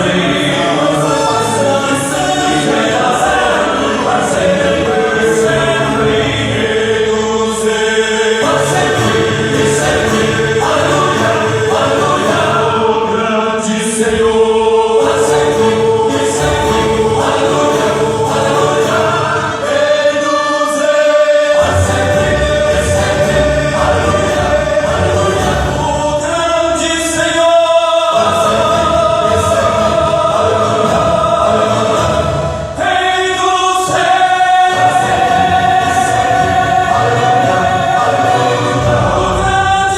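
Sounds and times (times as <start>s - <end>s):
gospel vocal harmony singing: 0.0s - 39.9s.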